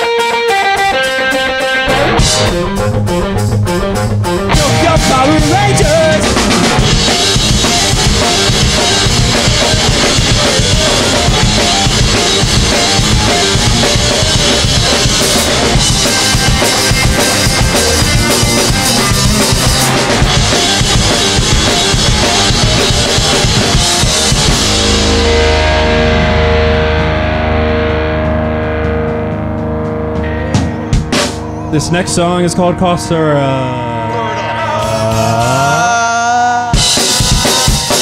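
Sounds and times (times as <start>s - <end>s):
drum kit: 0.0s - 32.2s, 34.5s - 38.0s
live band playing loud: 0.0s - 38.0s.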